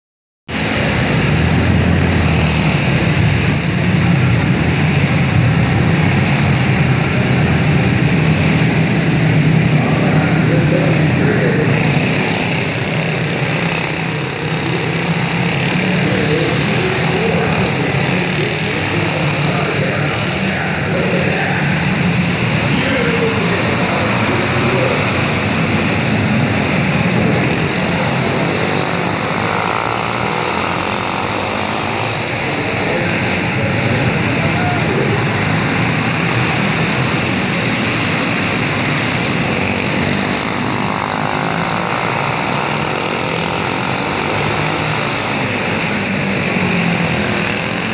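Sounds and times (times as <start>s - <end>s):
kart engines running: 0.5s - 47.9s.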